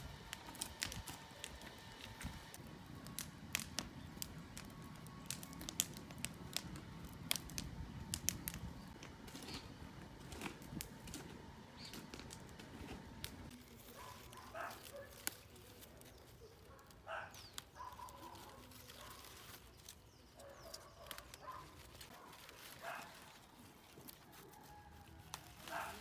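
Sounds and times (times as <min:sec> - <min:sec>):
faint outdoor ambience: 0:00.0 - 0:26.0.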